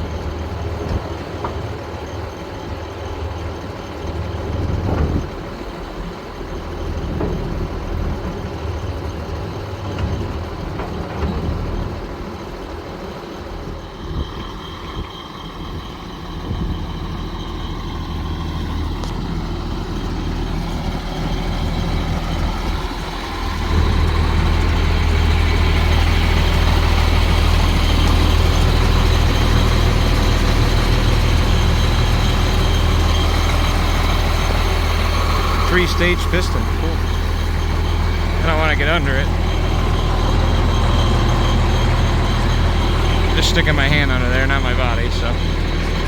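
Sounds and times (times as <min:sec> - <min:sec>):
diesel truck engine idling: 0:00.0 - 0:46.0.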